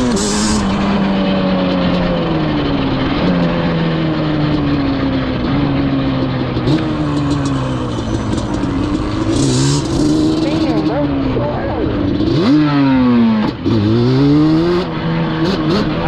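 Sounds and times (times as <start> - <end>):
two-stroke quad engine running: 0.0 - 16.0.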